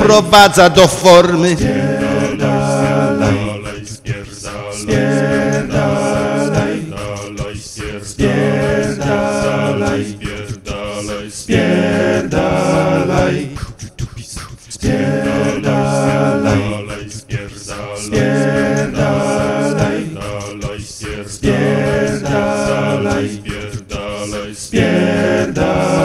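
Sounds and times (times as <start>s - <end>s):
a cappella singing: 1.5s - 26.0s.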